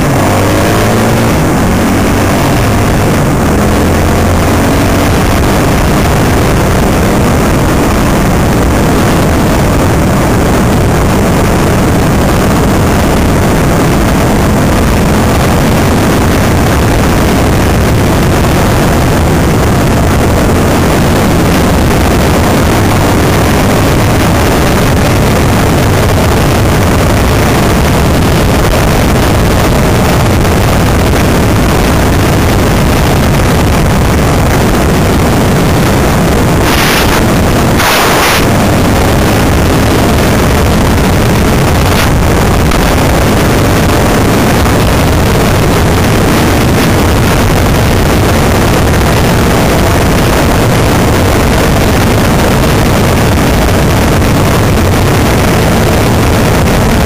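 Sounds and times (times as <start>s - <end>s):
dense rushing noise: 0.0s - 57.0s
motorcycle engine running: 0.0s - 57.0s.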